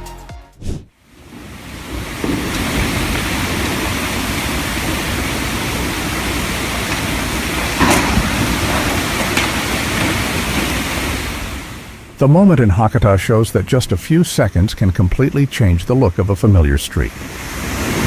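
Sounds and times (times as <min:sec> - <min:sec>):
steady rushing noise: 0:00.6 - 0:18.0.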